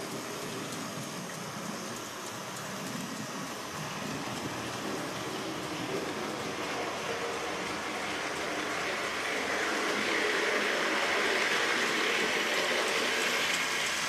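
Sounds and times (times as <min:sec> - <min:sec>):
model train whirring rumble: 0:00.0 - 0:14.0.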